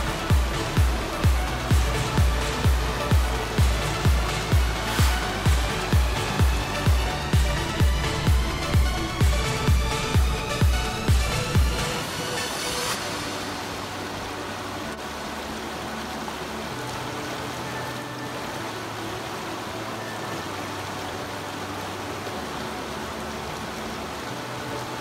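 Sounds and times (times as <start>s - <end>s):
stream water rushing over rocks: 0.0s - 25.0s.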